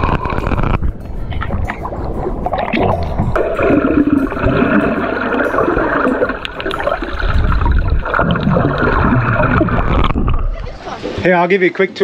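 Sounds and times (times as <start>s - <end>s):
muffled underwater bubbling: 0.0s - 11.2s.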